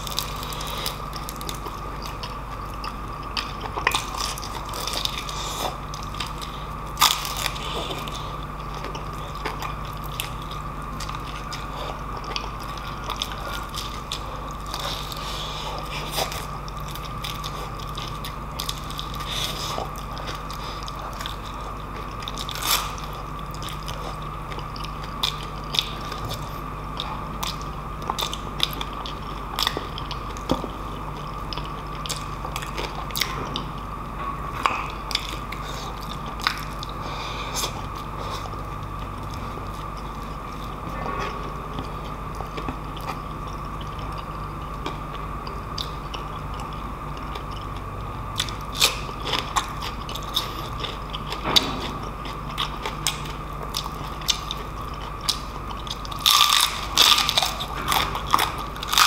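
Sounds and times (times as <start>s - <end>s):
chewing and crunching crispy food: 0.0s - 59.0s
steady hum: 0.0s - 59.0s.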